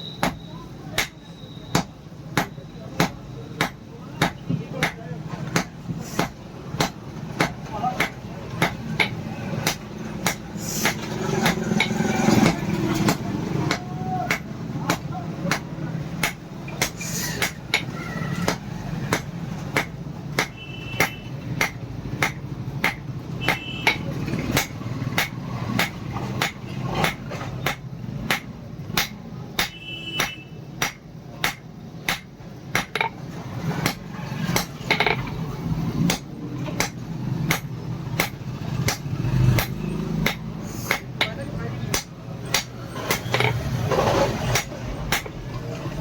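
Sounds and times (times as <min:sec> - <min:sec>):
hammer striking hot iron: 0:00.2 - 0:33.2, 0:33.8 - 0:35.3, 0:36.0 - 0:45.4.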